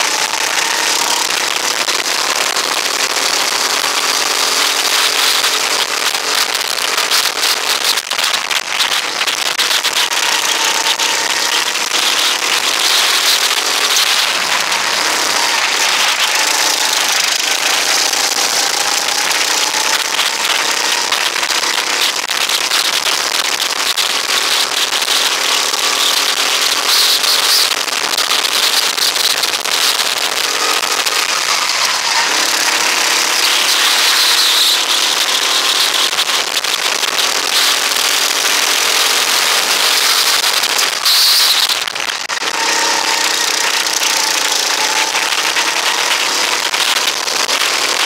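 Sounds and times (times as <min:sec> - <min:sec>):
go-kart engine running hard: 0:00.0 - 0:48.0.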